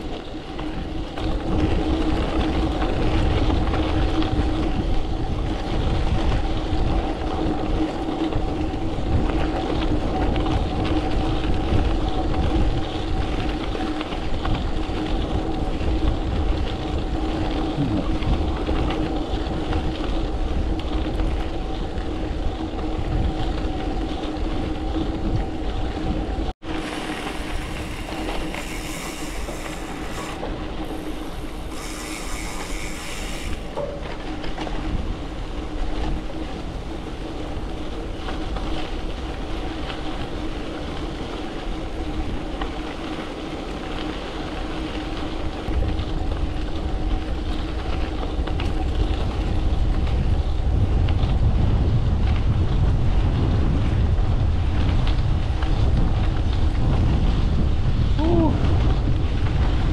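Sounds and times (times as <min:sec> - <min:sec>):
bike tyres rolling on gravel: 0:00.0 - 0:59.9
wind buffeting microphone: 0:00.0 - 0:59.9.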